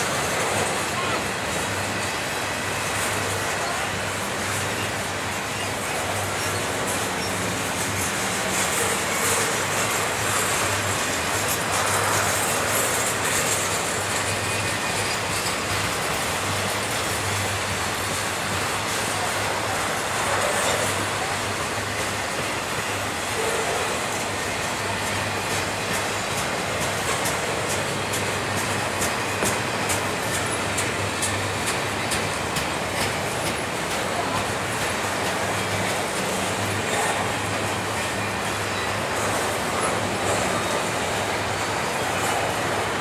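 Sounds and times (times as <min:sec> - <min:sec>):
train wheels on rails: 0:00.0 - 0:43.0.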